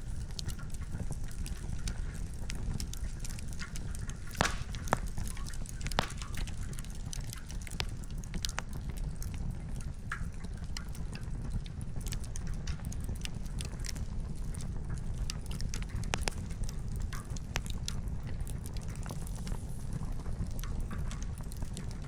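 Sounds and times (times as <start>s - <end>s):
campfire crackling: 0.0s - 22.0s
firewood popping: 0.1s - 21.7s.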